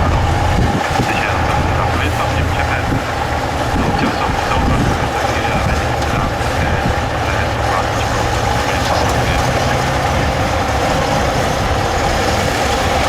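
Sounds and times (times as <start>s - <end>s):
truck engine running low: 0.0s - 13.0s.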